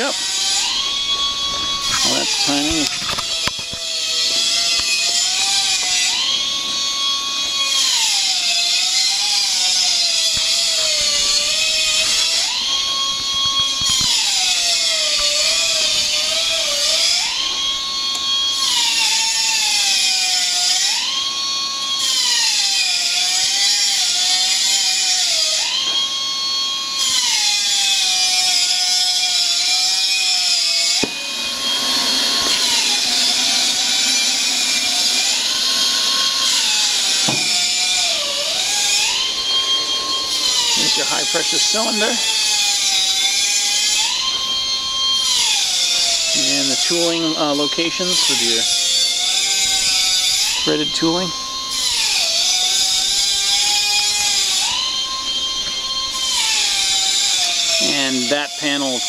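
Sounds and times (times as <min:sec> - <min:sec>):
heat press whining: 0:00.0 - 0:20.0, 0:25.5 - 0:58.9.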